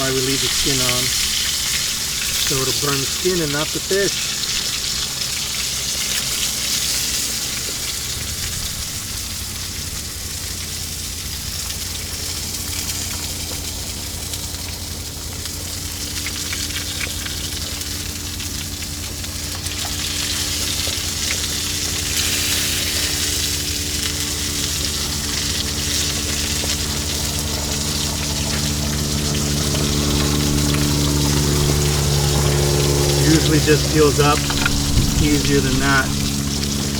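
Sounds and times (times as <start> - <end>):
fish sizzling in a pan: 0.0 - 36.9
steady low hum: 0.0 - 36.9.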